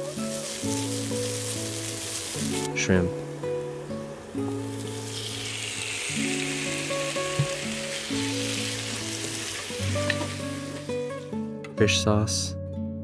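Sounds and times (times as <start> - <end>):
shrimp sizzling in hot oil: 0.0 - 11.4
background music with held notes: 0.0 - 13.0.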